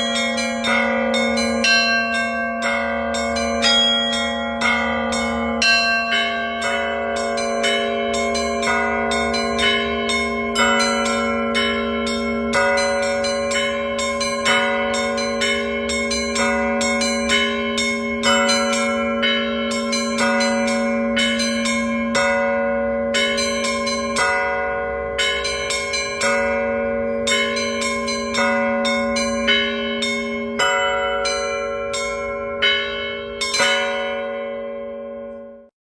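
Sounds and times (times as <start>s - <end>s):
deep ringing bell: 0.0s - 35.7s.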